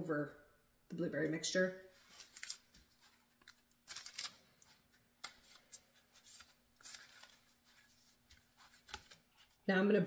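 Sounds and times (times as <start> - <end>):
rustling of paper and dough: 1.8 - 10.0.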